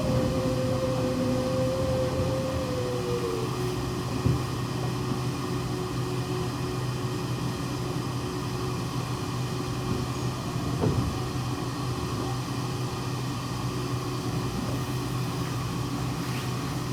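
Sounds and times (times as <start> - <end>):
train car running hum: 0.0 - 16.9.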